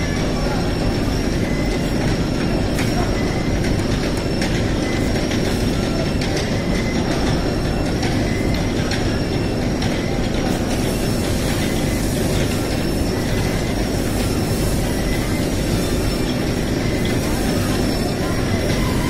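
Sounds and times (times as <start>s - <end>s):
belt conveyors rumbling: 0.0s - 19.0s.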